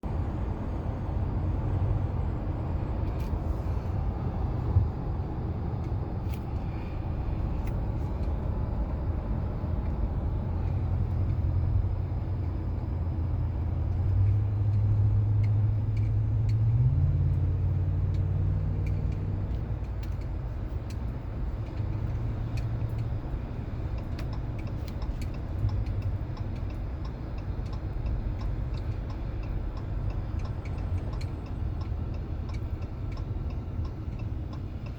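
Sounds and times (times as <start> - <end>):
road noise inside car: 0.0 - 34.9.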